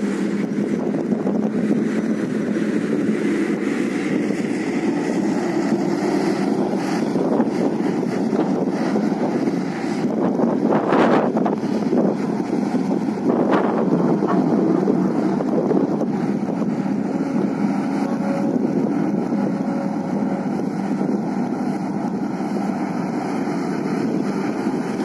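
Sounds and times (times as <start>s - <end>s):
excavator diesel engine running: 0.0s - 25.0s
faint whine: 0.0s - 25.0s
wind buffeting microphone: 0.0s - 25.0s.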